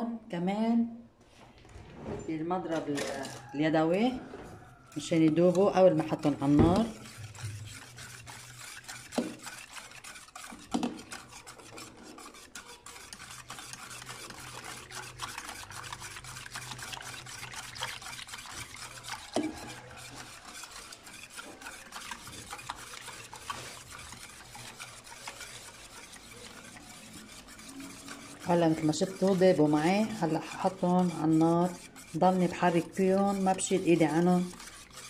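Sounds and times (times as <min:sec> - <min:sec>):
wire whisk swishing in metal pot: 0:02.8 - 0:35.0
whisk knocking against pot: 0:05.0 - 0:35.0.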